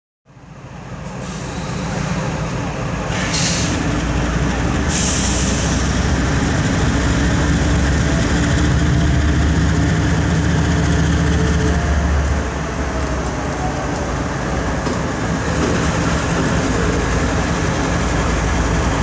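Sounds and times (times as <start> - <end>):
diesel locomotive engine rumble: 0.3 - 19.0.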